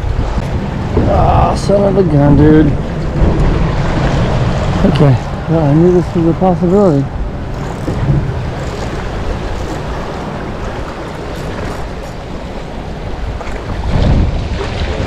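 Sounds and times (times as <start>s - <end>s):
wind rumbling on microphone: 0.0s - 15.0s
small waves lapping: 1.7s - 15.0s.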